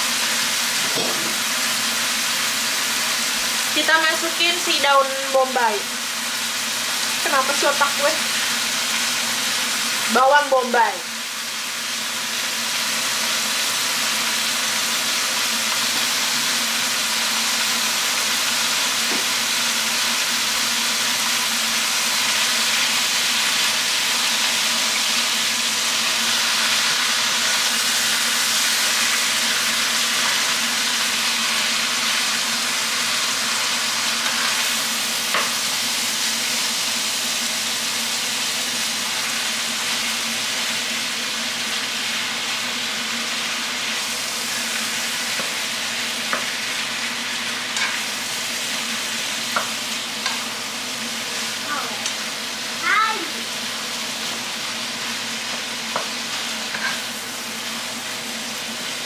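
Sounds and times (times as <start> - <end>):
meat and onion sizzling in pan: 0.0 - 59.0.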